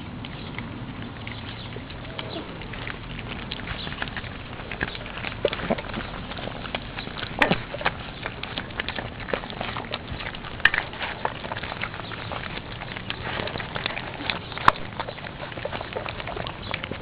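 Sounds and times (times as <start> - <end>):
puppy paws and claws pattering: 0.0 - 17.0.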